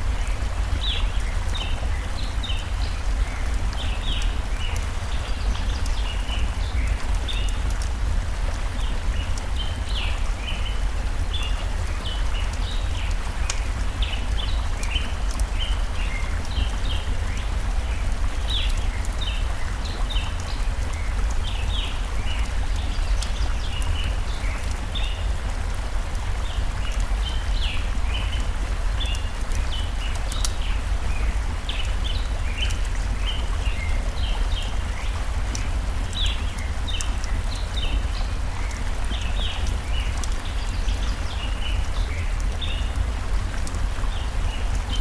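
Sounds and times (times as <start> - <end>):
campfire crackling: 0.0 - 45.0
stream water rushing: 0.0 - 45.0.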